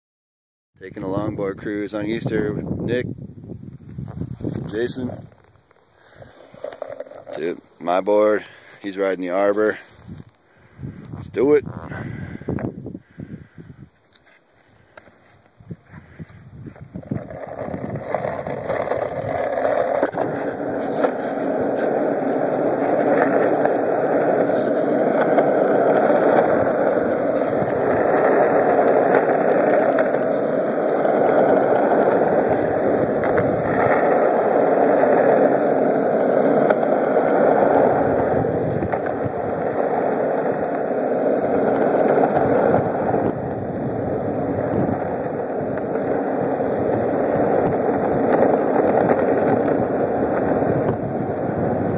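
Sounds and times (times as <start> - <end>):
longboard wheels rolling on asphalt: 0.8 - 51.9.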